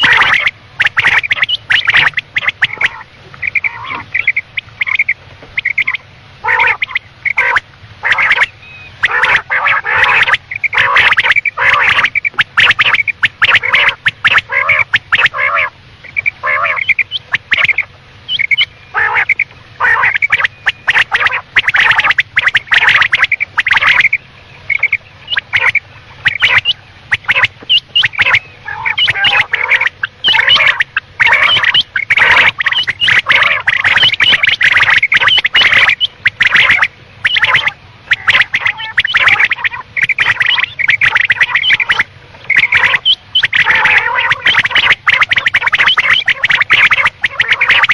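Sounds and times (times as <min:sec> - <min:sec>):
quail calling: 0:00.0 - 0:47.9.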